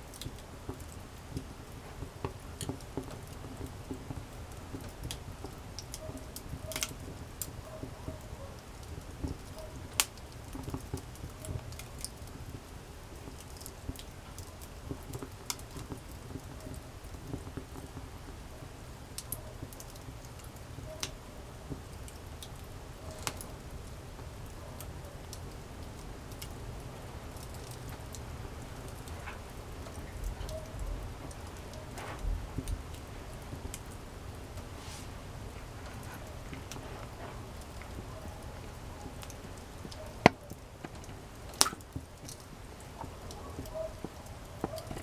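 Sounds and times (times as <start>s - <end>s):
campfire crackling and popping: 0.0s - 45.0s
low rumble of burning fire: 0.0s - 45.0s.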